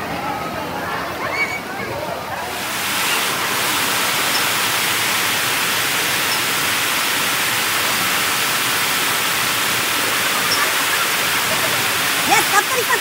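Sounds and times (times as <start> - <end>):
steady rushing noise: 2.4 - 13.0.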